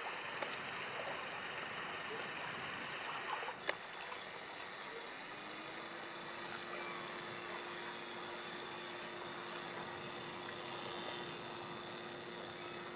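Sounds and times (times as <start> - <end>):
faint hum: 0.0 - 12.9.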